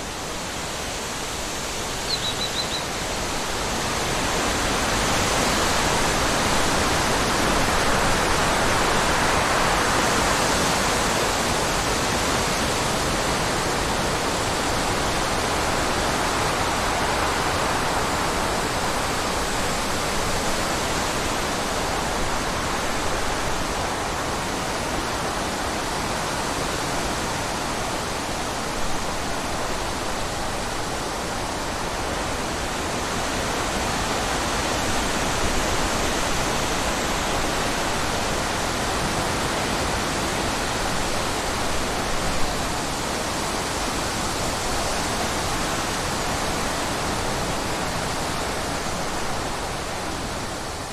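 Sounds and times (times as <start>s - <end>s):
running water rushing: 0.0s - 50.9s.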